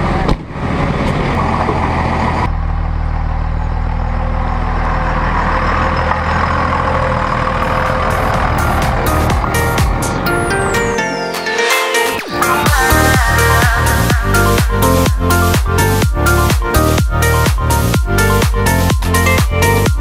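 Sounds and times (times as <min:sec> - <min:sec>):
diesel truck engine running: 0:00.0 - 0:11.2, 0:12.2 - 0:20.0.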